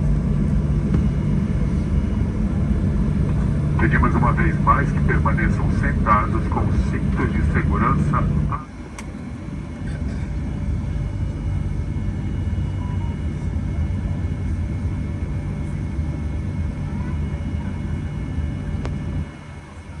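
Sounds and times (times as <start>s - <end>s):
airflow around cabin: 0.0s - 20.0s
jet engines rumbling: 0.0s - 20.0s.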